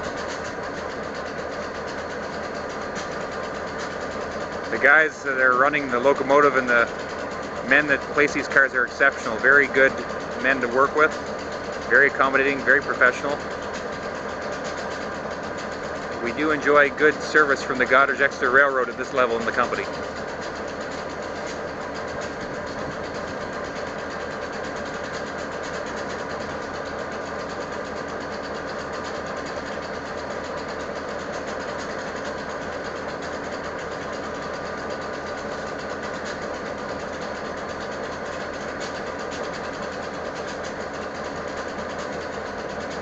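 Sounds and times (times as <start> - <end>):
locomotives idling: 0.0 - 43.0.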